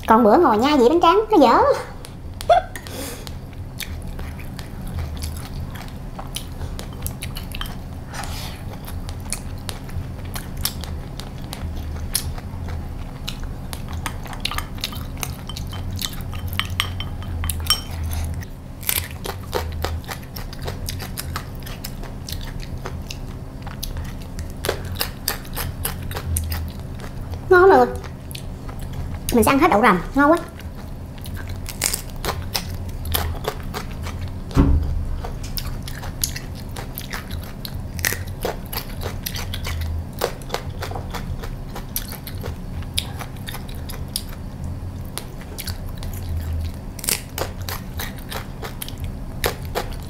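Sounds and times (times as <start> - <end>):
steady low hum: 0.0 - 50.0
chewing and crunching food: 2.0 - 50.0.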